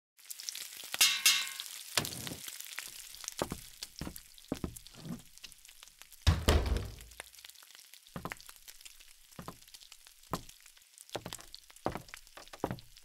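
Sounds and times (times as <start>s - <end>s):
food sizzling in a frying pan: 0.2s - 6.3s, 7.1s - 13.0s.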